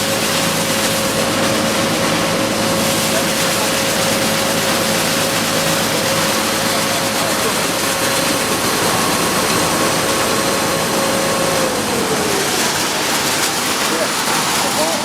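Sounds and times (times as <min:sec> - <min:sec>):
machine whine: 0:00.0 - 0:15.0
milling machinery running: 0:00.0 - 0:15.0.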